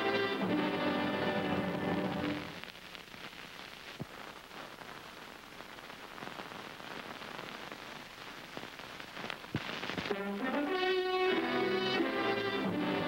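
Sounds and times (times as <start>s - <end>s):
film soundtrack crackling hiss: 0.0s - 13.0s.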